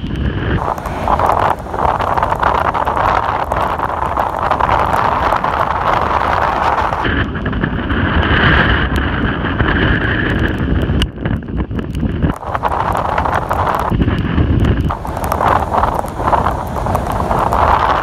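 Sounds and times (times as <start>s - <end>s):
crackles: 0.0s - 18.0s
wind buffeting microphone: 0.0s - 18.0s
surf breaking on beach: 0.6s - 10.2s, 12.3s - 18.0s.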